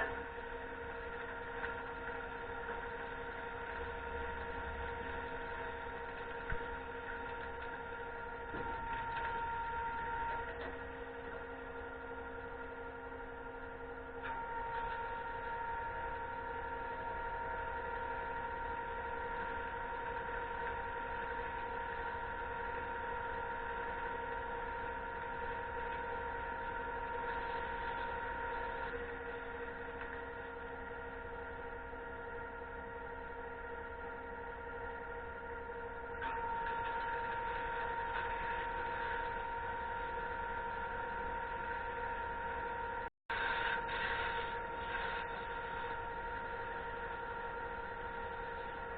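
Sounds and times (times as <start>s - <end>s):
pump truck mechanical hum: 0.0s - 48.9s.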